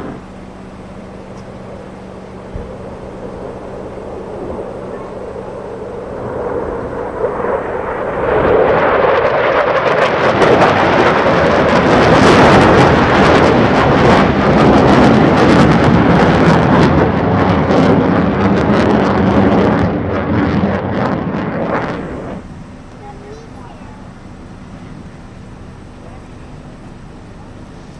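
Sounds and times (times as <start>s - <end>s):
fighter jet flying past: 0.0s - 27.9s.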